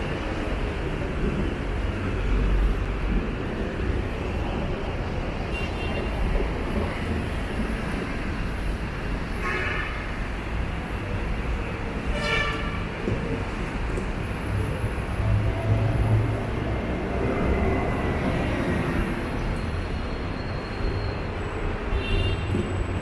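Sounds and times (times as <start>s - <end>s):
passing traffic rumble: 0.0s - 23.0s.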